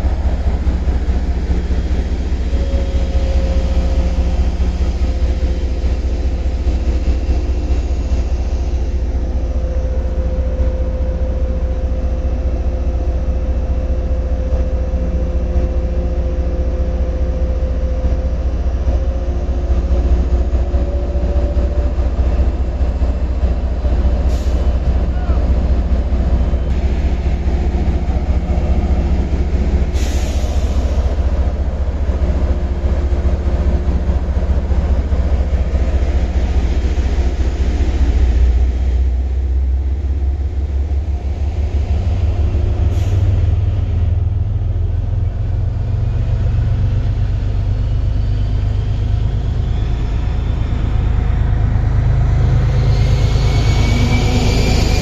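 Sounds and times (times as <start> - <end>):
diesel locomotive engine drone: 0.0 - 55.0
rising whine: 0.0 - 55.0.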